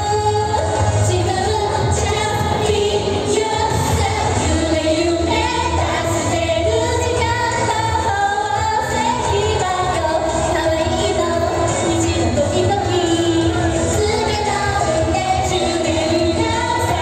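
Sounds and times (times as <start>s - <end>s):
pop song over sound system: 0.0s - 17.0s.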